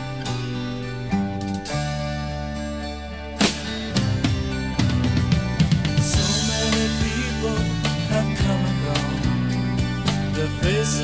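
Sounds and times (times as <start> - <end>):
steady held notes: 0.0 - 11.0.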